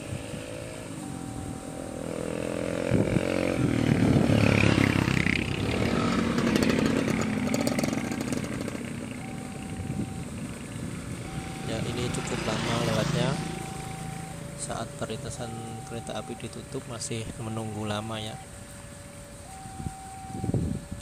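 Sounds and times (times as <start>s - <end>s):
motorcycle passing: 0.0s - 20.9s
level-crossing warning tones: 0.0s - 21.0s.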